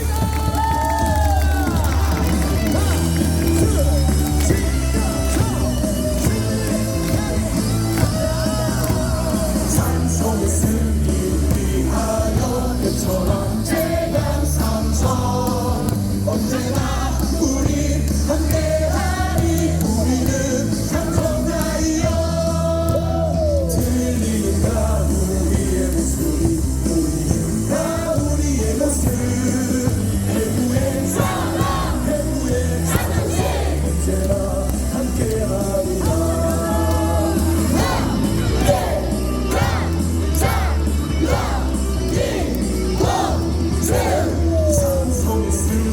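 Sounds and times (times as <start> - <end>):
amplified cheering song with bass beat: 0.0 - 45.9
crowd singing and yelling: 0.0 - 45.9.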